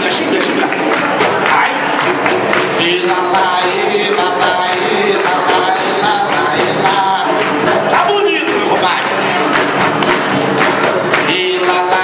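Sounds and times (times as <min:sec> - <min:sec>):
fast drumbeat on barrel drums: 0:00.0 - 0:12.0
group of voices singing chant: 0:00.0 - 0:12.0.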